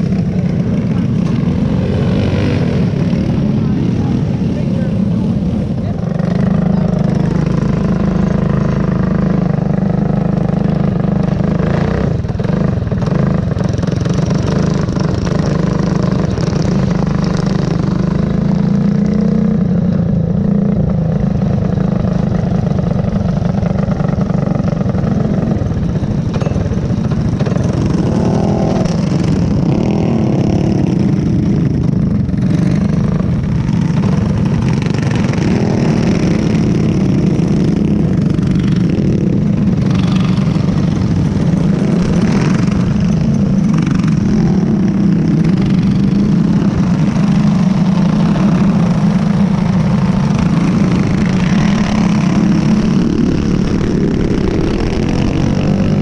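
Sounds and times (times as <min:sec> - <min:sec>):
go-kart engine racing: 0:00.0 - 0:56.0
other go-kart engines: 0:00.0 - 0:56.0.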